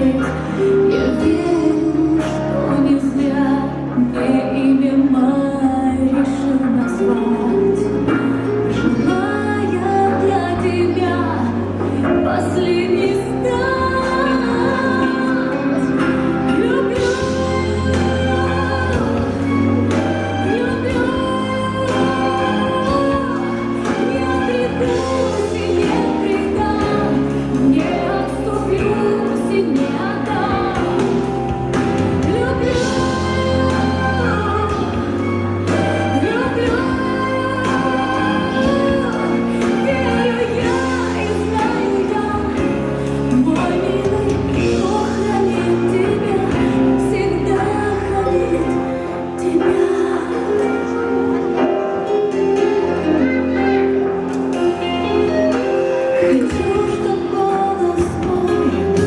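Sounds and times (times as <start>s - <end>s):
song with female vocals: 0.0s - 59.0s.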